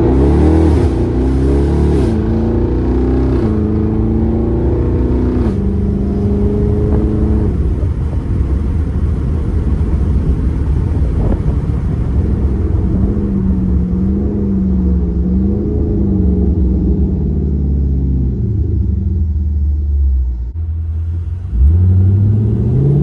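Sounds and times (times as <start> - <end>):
car engine accelerating through gears: 0.0 - 23.0
road and wind noise: 0.0 - 23.0.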